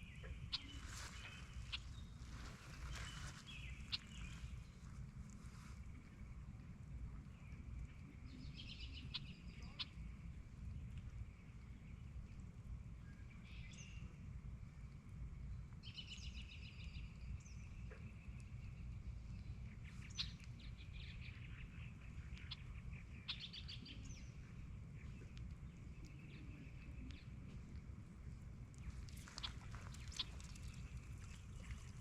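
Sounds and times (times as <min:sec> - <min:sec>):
birds chirping: 0:00.0 - 0:05.1, 0:07.2 - 0:12.4, 0:15.8 - 0:32.0.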